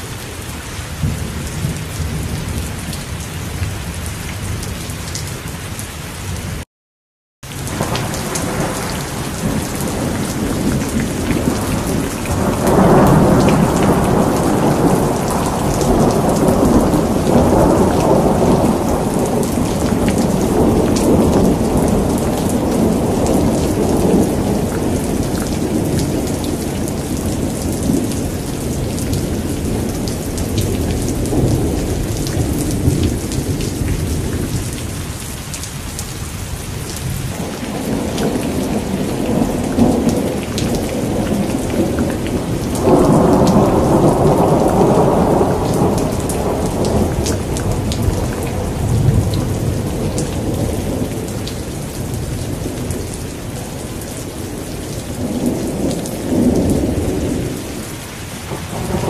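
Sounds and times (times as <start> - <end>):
heavy rain: 0.0 - 6.7, 7.4 - 59.0
rolling thunder: 7.6 - 35.1, 36.8 - 59.0.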